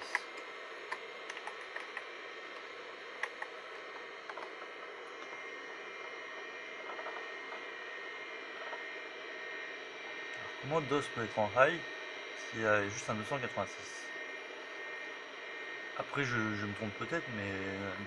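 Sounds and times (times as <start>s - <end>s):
computer fan humming: 0.0s - 18.0s
hard drive spinning: 0.0s - 18.0s.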